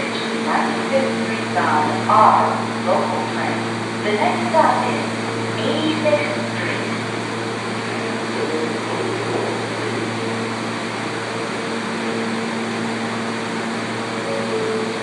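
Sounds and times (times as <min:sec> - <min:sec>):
low steady tones: 0:00.0 - 0:15.0
subway car fan hum: 0:00.0 - 0:15.0.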